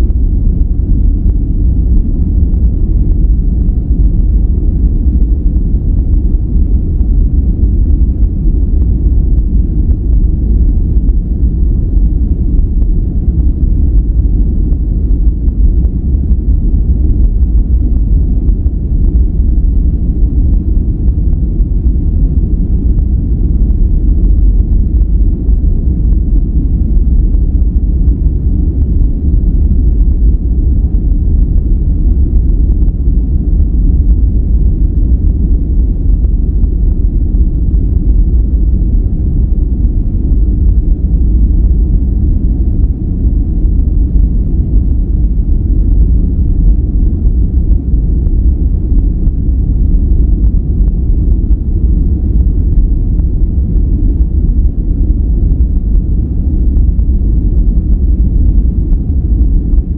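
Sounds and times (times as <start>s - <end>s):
deep low rumble noise: 0.0s - 59.9s.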